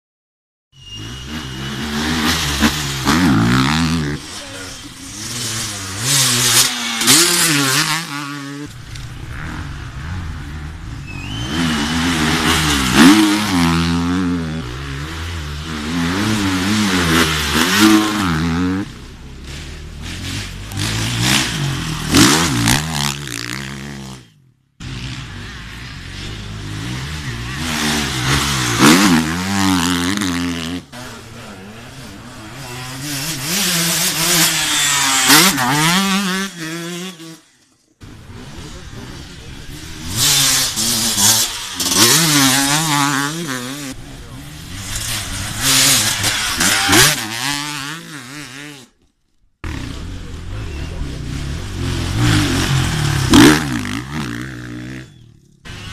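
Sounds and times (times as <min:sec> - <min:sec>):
motorcycles revving past: 0:00.8 - 0:49.0, 0:49.6 - 0:55.9.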